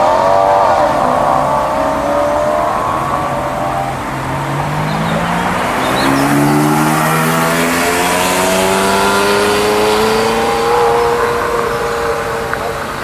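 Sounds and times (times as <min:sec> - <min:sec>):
sports car accelerating: 0:00.0 - 0:13.0.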